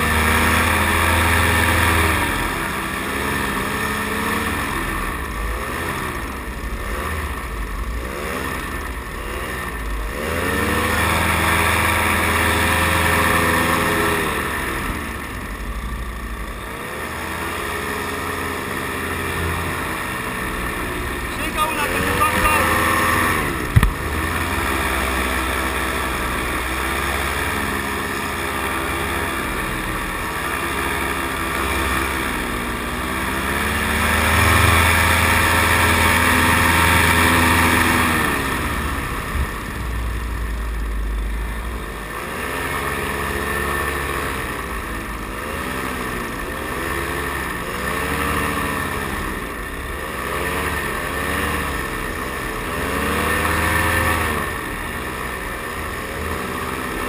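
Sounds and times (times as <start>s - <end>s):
paramotor engine running: 0.0s - 57.0s.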